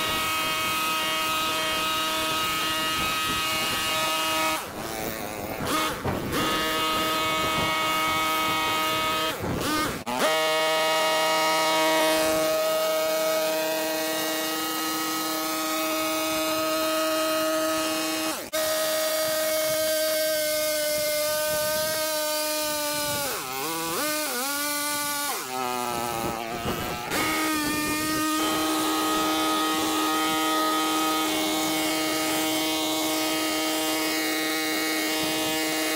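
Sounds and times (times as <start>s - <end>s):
power trimmer motor running: 0.0s - 35.9s.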